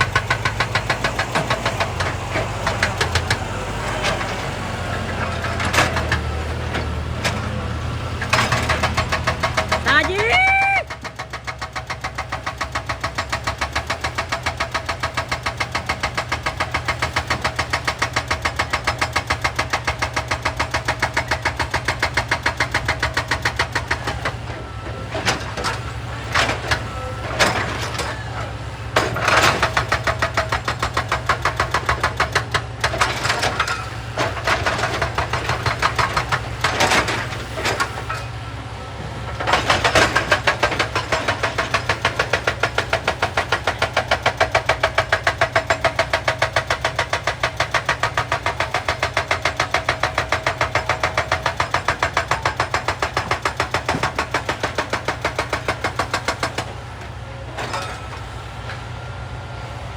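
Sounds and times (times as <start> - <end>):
hydraulic rock breaker hammering: 0.0 - 59.0
excavator engine hum: 0.0 - 59.9.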